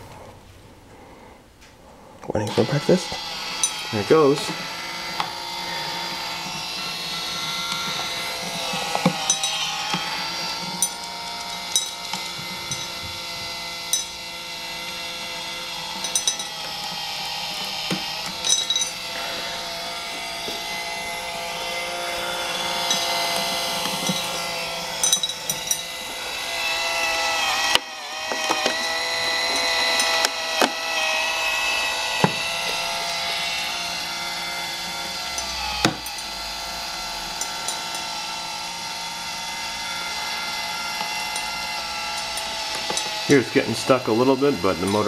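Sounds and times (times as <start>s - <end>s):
gearmotor whining: 1.8s - 45.0s.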